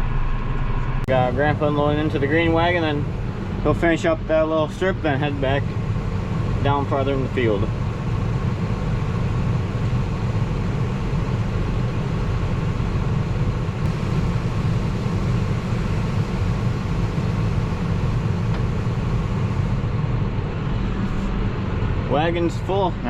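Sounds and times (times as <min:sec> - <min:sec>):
diesel engines low rumble: 0:00.0 - 0:23.0.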